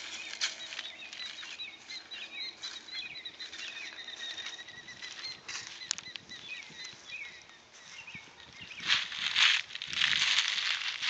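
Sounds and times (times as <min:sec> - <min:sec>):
birds chirping: 0:00.0 - 0:11.0
footsteps on muddy bank: 0:00.0 - 0:11.0.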